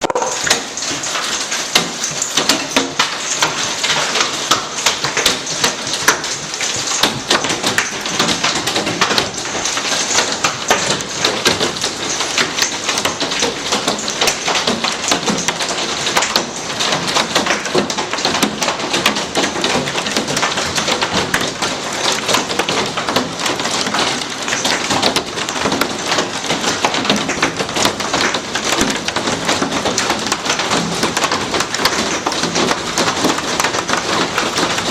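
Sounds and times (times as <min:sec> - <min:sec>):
hail and rain on glass: 0:00.0 - 0:34.9.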